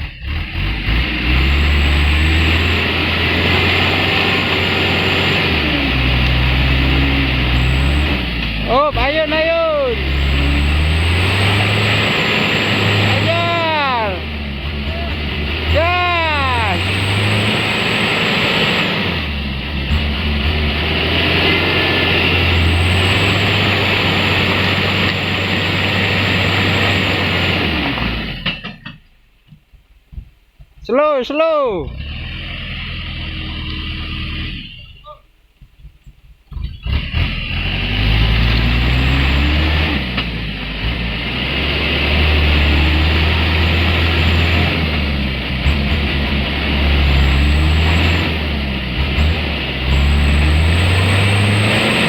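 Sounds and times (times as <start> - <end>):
diesel truck engine straining: 0.0 - 29.3, 31.8 - 35.0, 36.5 - 52.0.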